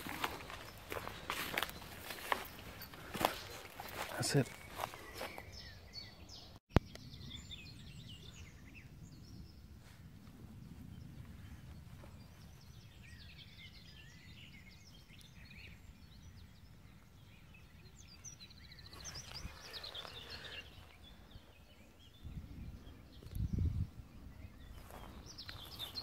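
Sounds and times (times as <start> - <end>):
songbirds singing and twittering: 0.0 - 26.0.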